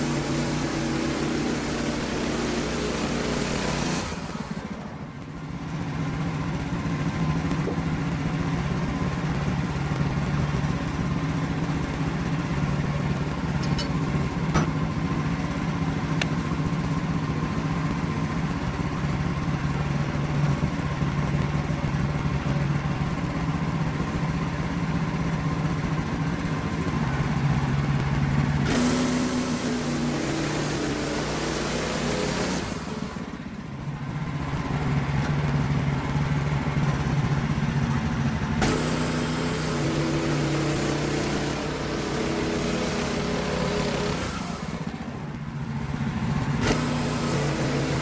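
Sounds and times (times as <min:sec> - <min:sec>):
sawmill engine running: 0:00.0 - 0:48.0.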